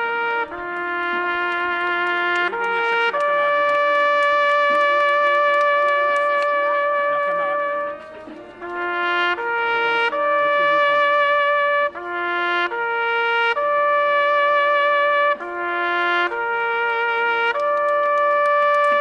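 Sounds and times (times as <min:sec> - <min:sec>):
brass instruments playing march: 0:00.0 - 0:19.0.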